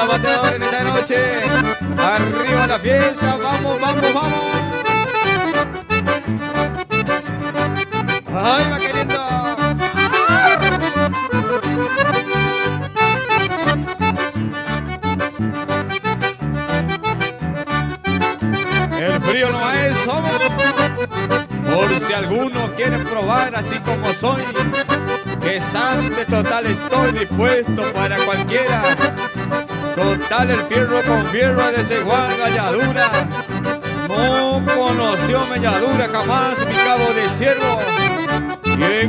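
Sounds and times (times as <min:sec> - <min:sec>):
accordion instrumental music: 0:00.0 - 0:39.0.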